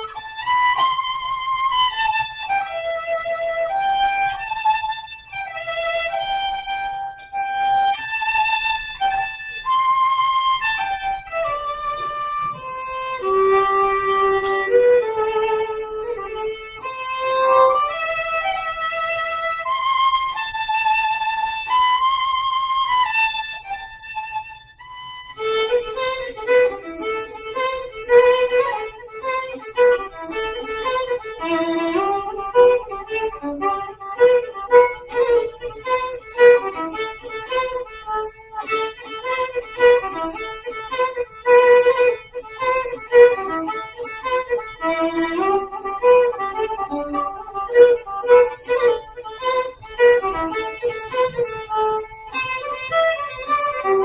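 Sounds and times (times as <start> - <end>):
violin melody: 0.0 - 54.0.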